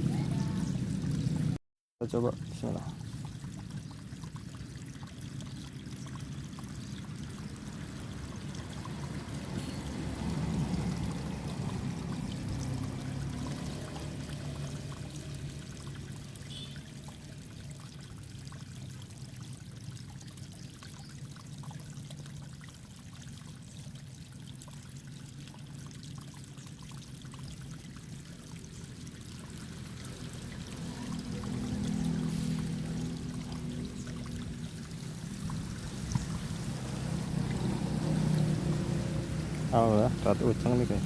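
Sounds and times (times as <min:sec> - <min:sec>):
water trickling in a ditch: 0:00.0 - 0:41.0.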